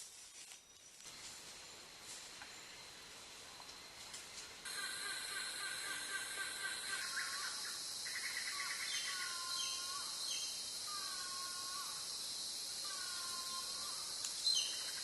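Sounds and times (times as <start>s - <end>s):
steady high hiss: 1.0s - 15.0s.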